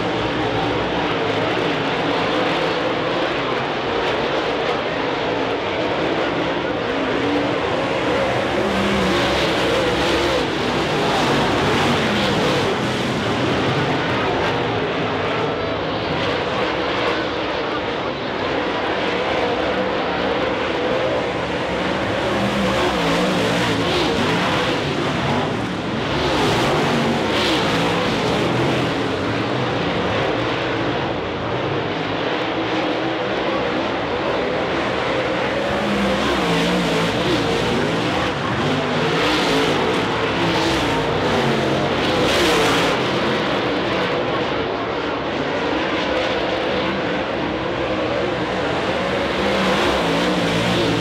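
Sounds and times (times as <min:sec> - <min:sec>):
race car engines droning: 0:00.0 - 0:51.0.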